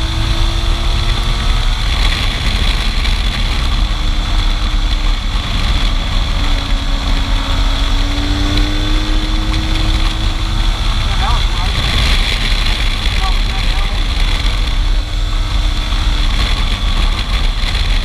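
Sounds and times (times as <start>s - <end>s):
motorcycle engine running: 0.0s - 18.0s
wind rumble on microphone: 0.0s - 18.0s.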